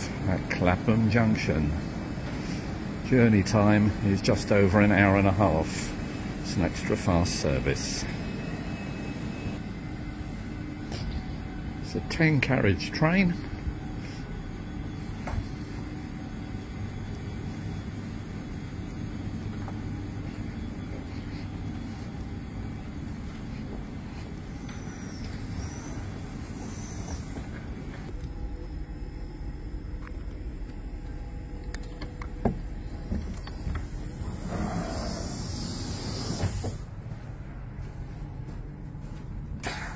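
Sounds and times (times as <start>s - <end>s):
electric train humming: 0.0s - 39.7s.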